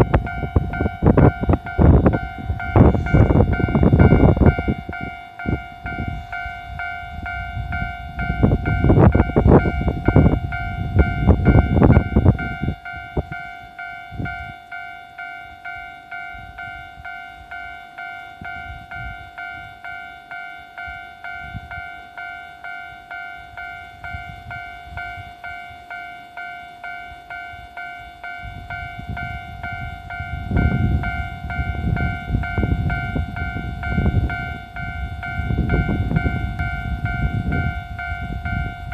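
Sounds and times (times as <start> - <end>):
level-crossing bell two-tone ding: 0.0 - 38.9
train rumbling past: 0.0 - 38.9.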